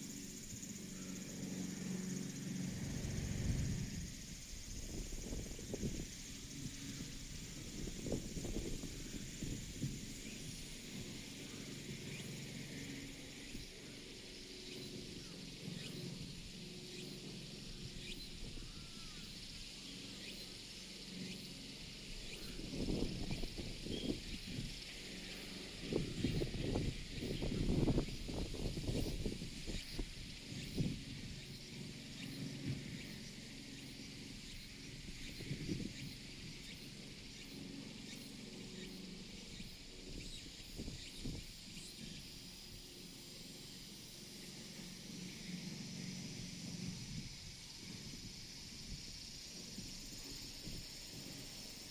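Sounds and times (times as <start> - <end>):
steady high hiss: 0.0 - 51.9.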